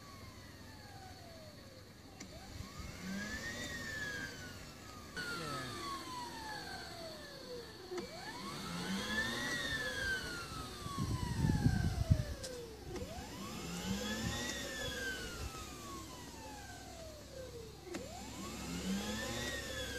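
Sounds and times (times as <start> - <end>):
model helicopter whining: 0.0 - 19.9.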